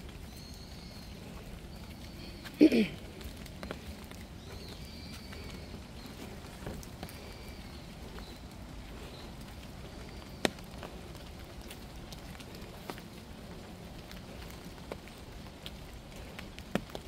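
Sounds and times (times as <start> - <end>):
barefoot footsteps on dirt: 0.0 - 13.7.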